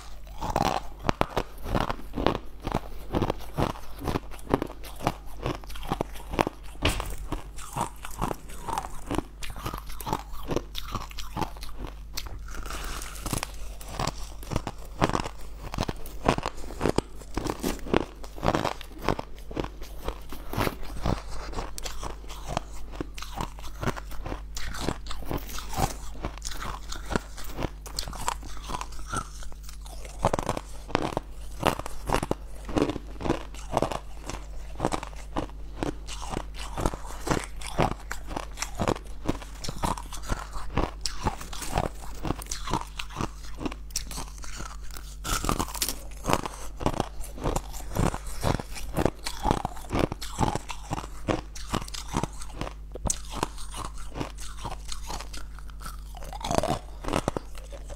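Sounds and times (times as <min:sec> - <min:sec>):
ice being crunched and chewed: 0:00.0 - 0:57.9.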